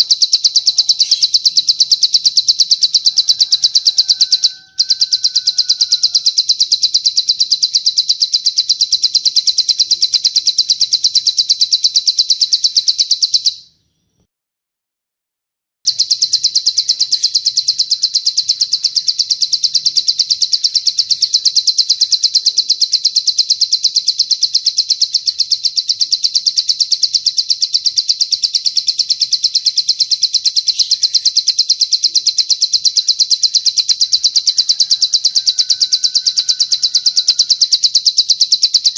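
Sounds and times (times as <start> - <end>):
rapid high-pitched bird trill: 0.0 - 14.3, 15.9 - 38.9.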